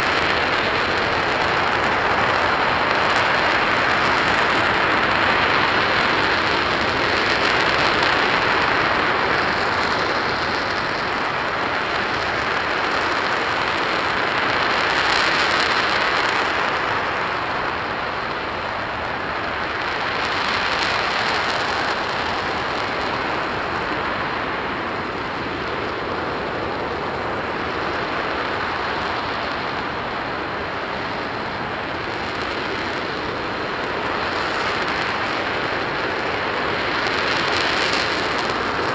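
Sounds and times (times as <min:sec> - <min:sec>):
rocket engine firing: 0:00.0 - 0:38.9.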